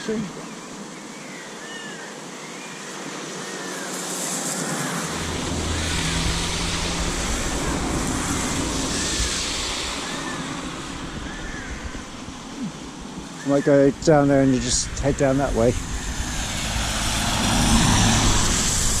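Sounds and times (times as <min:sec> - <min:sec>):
car tyres hissing through water: 0:01.6 - 0:13.8, 0:15.6 - 0:19.0.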